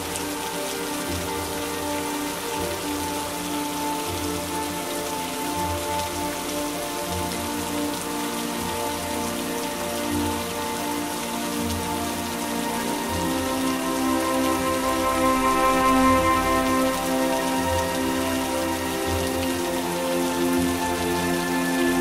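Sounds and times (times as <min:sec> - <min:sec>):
heavy rain: 0:00.0 - 0:22.0
soft music with long notes: 0:00.0 - 0:22.0.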